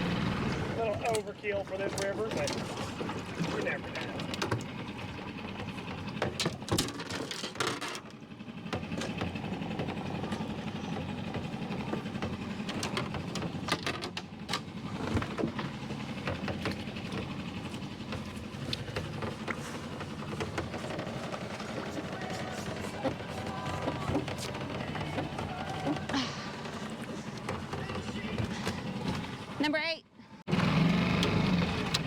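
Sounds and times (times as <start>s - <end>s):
small boat motor running: 0.0s - 32.0s.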